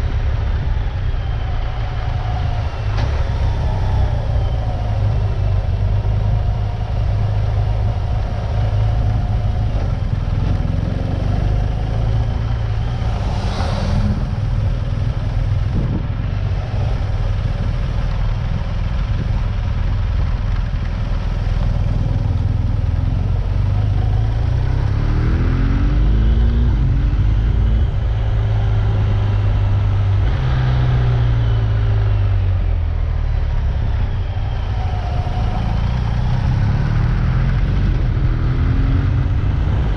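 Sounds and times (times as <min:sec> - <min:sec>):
heavy rumble: 0:00.0 - 0:39.9
vehicle engine running: 0:00.0 - 0:39.9.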